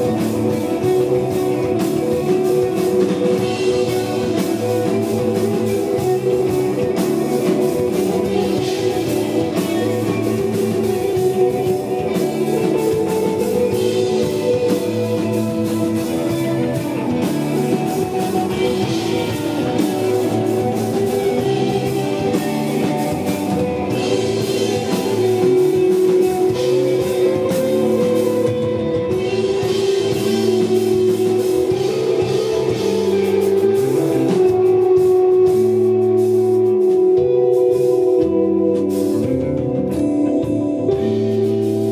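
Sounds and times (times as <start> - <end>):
drum kit: 0.0 - 41.9
ringing electric guitar notes: 0.0 - 41.9.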